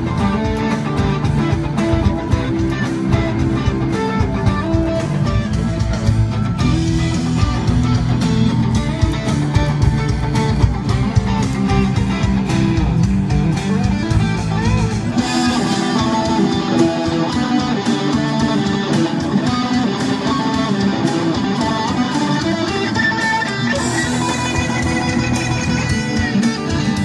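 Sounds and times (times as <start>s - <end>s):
electric guitar music: 0.0s - 27.0s.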